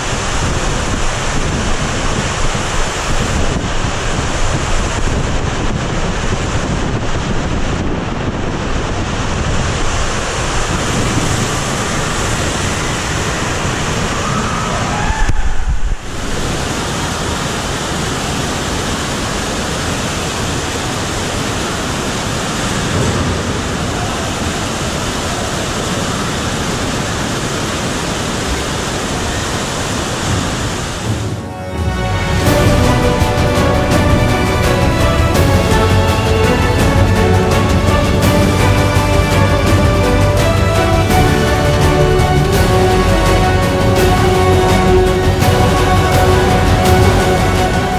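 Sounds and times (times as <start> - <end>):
churning water pouring down: 0.0 - 47.9
water rushing around a raft: 0.0 - 47.9.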